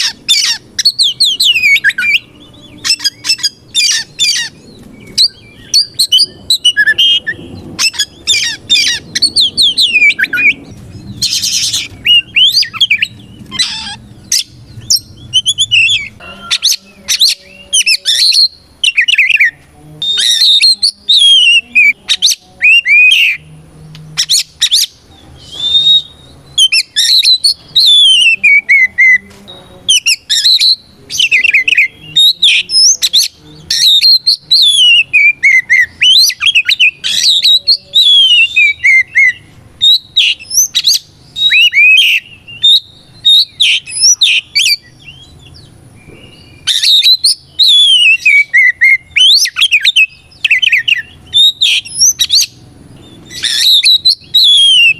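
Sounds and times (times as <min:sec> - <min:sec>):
bird singing whistled phrases: 0:00.0 - 0:23.4, 0:24.2 - 0:45.4, 0:46.0 - 0:54.9.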